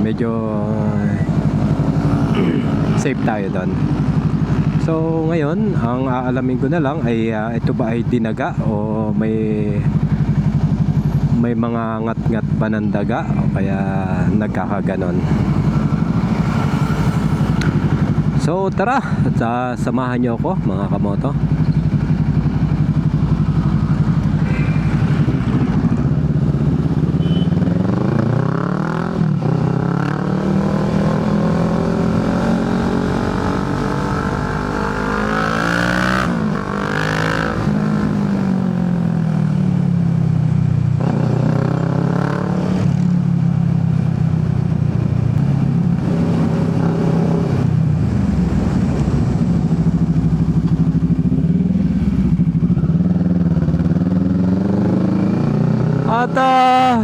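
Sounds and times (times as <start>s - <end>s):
motorcycle engine accelerating: 0.0s - 5.4s, 13.3s - 19.3s, 20.5s - 57.0s.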